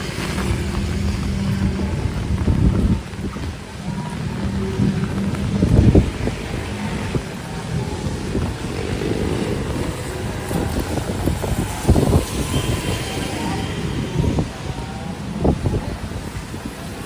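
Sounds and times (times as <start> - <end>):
city traffic passing: 0.0 - 17.0
wind gusting on microphone: 0.0 - 17.0.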